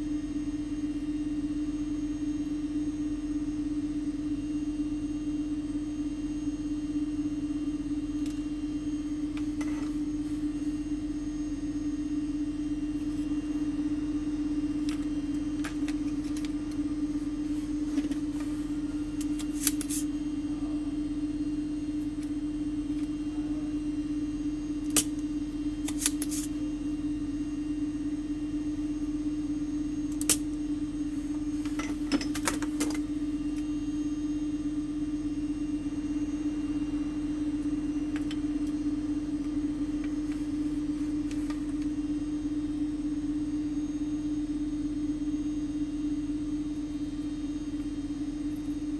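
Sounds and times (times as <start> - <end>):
electrical hum: 0.0 - 48.9.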